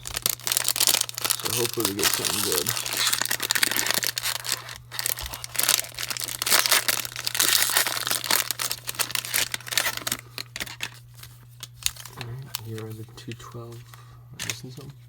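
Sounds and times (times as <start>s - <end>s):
plastic packaging crinkling: 0.0s - 14.9s
low electrical hum: 0.0s - 15.0s.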